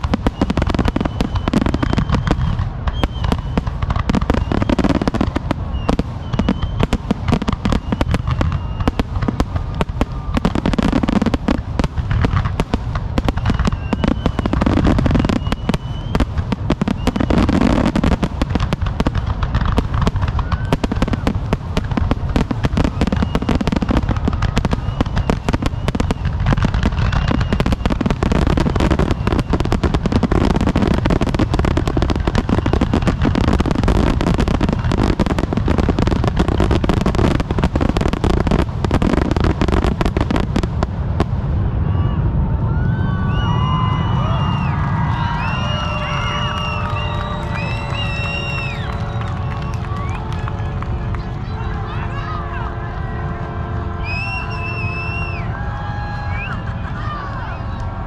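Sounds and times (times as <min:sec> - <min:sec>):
firework whistles: 0:00.0 - 0:40.7, 0:41.5 - 0:50.6, 0:53.8 - 0:56.6
deep rumble: 0:00.0 - 0:58.0
fireworks bangs and crackling: 0:00.0 - 0:58.0.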